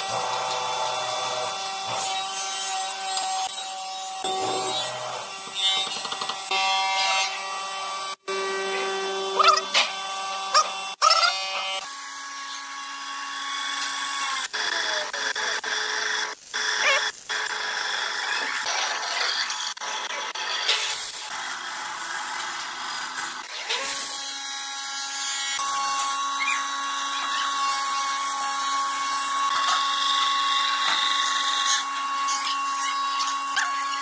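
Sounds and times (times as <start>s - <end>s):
bandsaw cutting wood: 0.0s - 15.6s, 18.0s - 34.0s.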